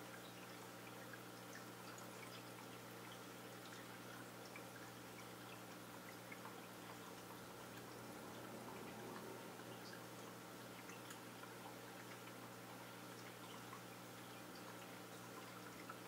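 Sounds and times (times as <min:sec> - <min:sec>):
aquarium water trickling: 0:00.0 - 0:16.0.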